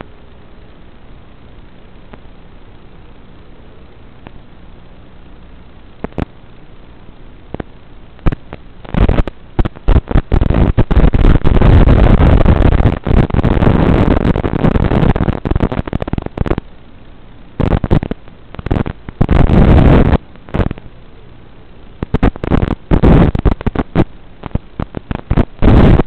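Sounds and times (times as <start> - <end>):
radio static hiss and crackling: 0.0 - 26.0.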